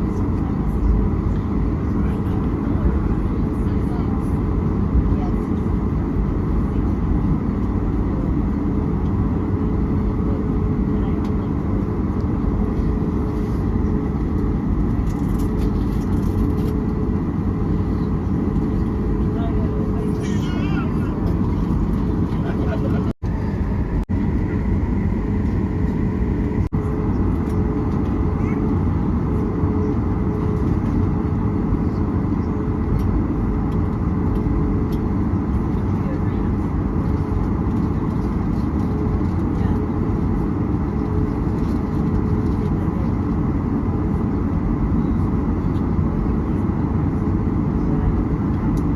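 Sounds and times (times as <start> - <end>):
airliner cabin engine drone: 0.0 - 48.9.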